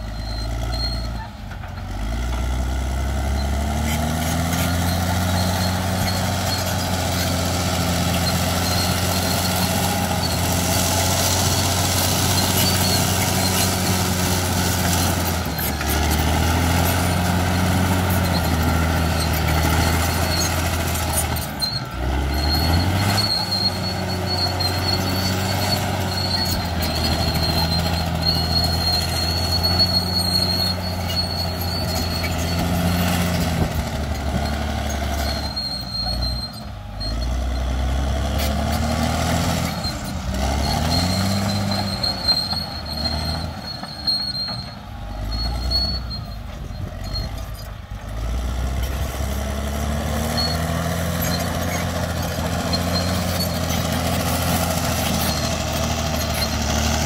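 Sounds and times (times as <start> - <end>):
thin high squeal: 0.0 - 1.4, 3.2 - 57.0
bulldozer diesel engine under load: 0.0 - 57.0.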